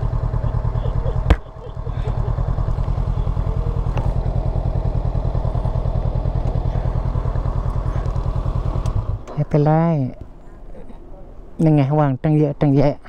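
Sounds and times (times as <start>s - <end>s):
motorcycle engine idling: 0.0s - 11.5s.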